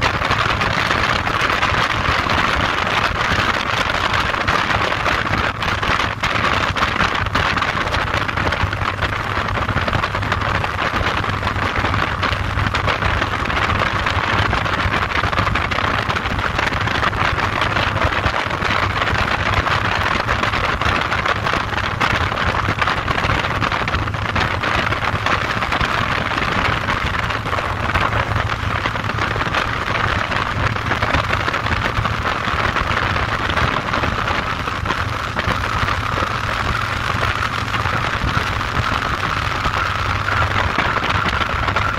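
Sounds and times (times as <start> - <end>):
motorcycle engine running steadily: 0.0 - 41.9
wind rush: 0.0 - 41.9.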